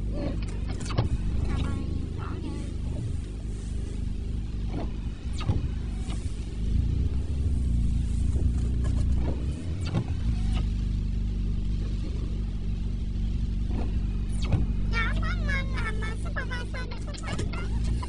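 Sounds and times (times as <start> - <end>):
engine and road drone: 0.0 - 18.0.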